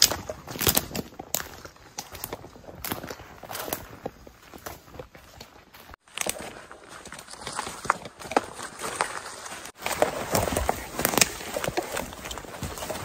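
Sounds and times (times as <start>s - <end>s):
branches brushing against clothing: 0.0s - 13.0s
footsteps crunching through dry leaves: 0.0s - 13.0s.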